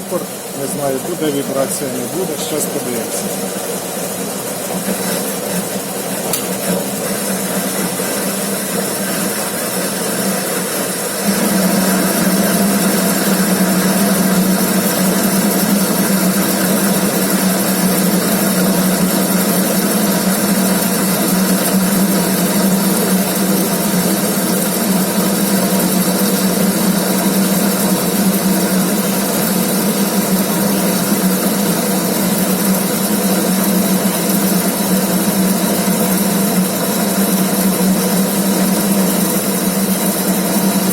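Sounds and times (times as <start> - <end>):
metal lathe running: 0.0 - 40.9.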